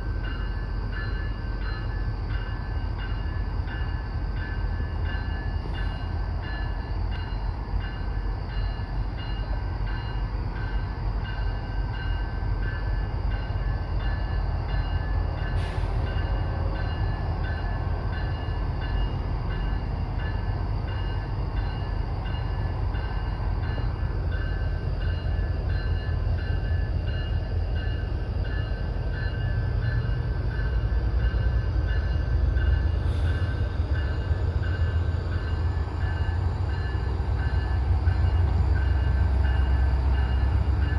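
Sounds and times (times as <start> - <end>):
freight train rumbling by: 0.0 - 40.9.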